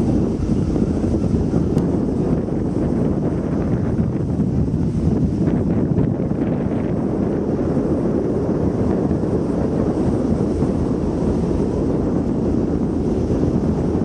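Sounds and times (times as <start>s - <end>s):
ship engine running: 0.0s - 14.0s
wind buffeting microphone: 0.0s - 14.0s.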